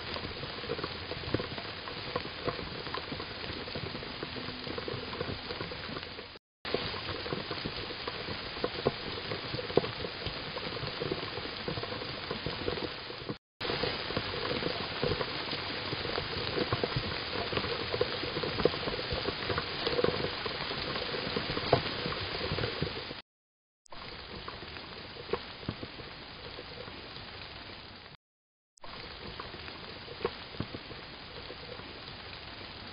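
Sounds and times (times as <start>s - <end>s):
rain pattering on leaves: 0.0s - 23.2s, 24.0s - 28.2s, 28.8s - 32.9s.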